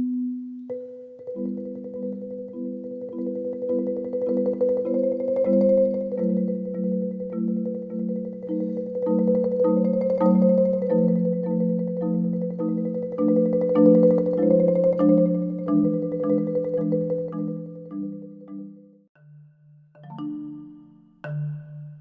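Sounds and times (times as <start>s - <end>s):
music with repeated chords: 0.0s - 21.7s.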